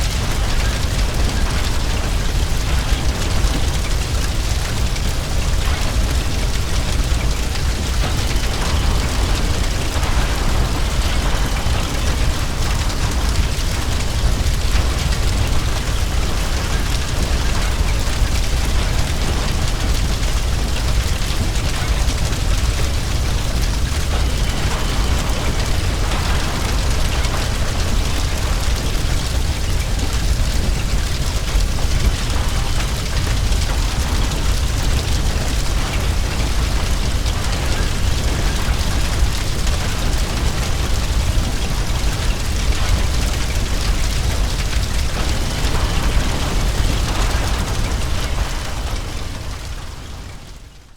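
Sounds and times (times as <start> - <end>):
burning debris crackling: 0.0 - 50.9
fire roaring: 0.0 - 50.9.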